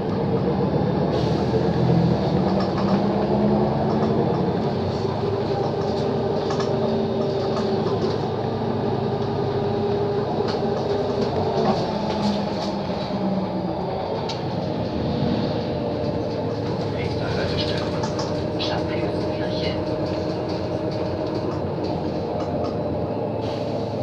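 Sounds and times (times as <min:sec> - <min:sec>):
bus engine drone: 0:00.0 - 0:24.0.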